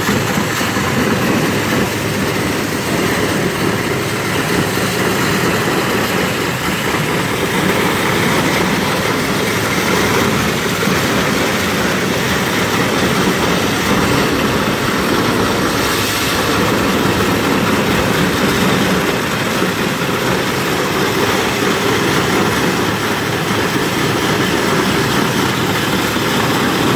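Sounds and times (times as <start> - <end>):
high-pressure water jet rushing: 0.0 - 26.9.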